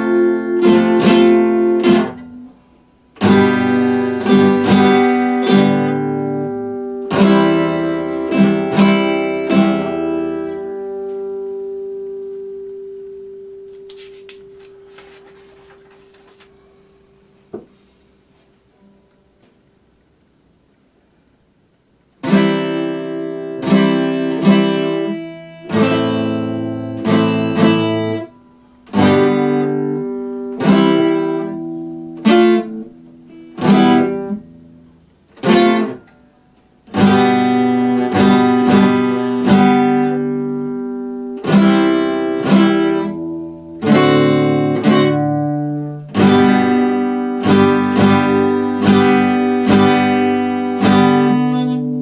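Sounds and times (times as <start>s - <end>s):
acoustic guitar strumming: 0.0s - 52.0s.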